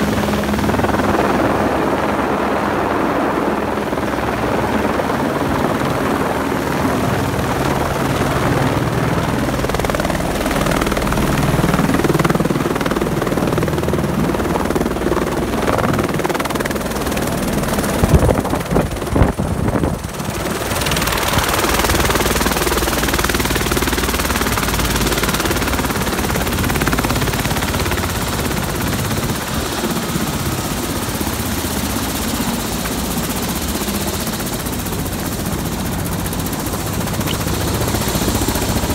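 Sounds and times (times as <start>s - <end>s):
helicopter rotor and turbine drone: 0.0s - 38.9s.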